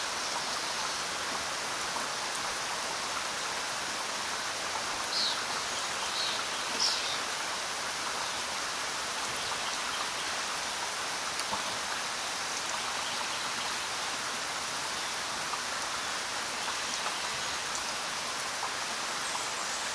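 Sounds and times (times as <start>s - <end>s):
rain falling: 0.0s - 19.9s.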